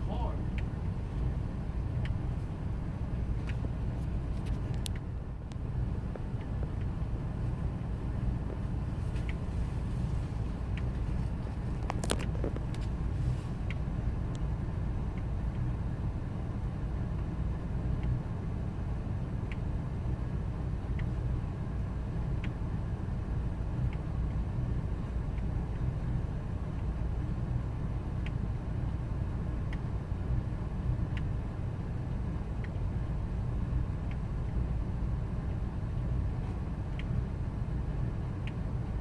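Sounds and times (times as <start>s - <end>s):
engine idling with low rumble: 0.0s - 39.0s.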